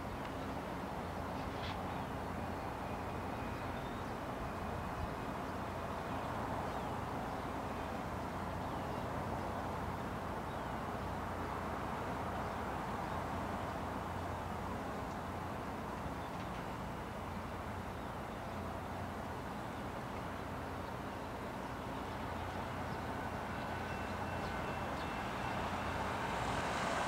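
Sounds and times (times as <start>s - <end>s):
distant traffic and machinery hiss: 0.0s - 27.0s.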